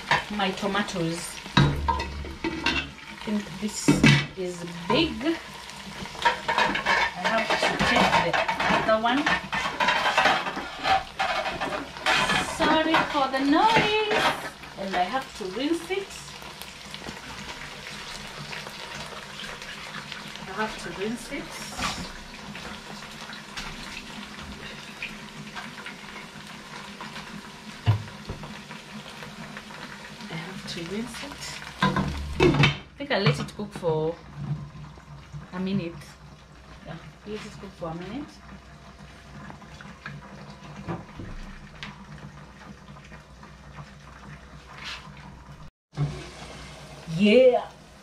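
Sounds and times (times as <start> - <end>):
kitchen tap running: 0.0 - 48.0
stew bubbling in a pot: 0.0 - 48.0.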